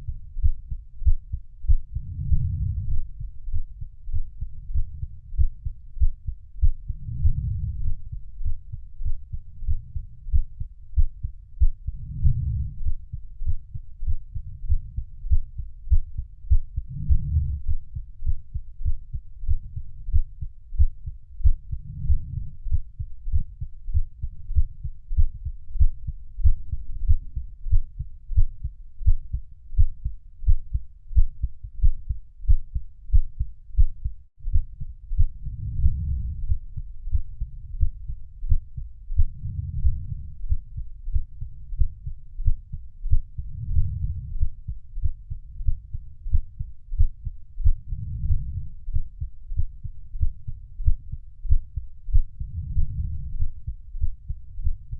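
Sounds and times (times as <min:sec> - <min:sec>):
heartbeat: 0:00.0 - 0:54.9.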